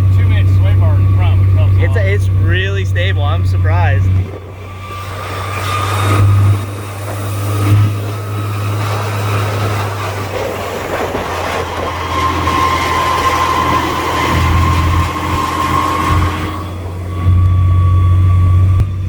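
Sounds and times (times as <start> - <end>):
thin whine: 0.0 - 19.0
truck engine drone: 0.0 - 19.0.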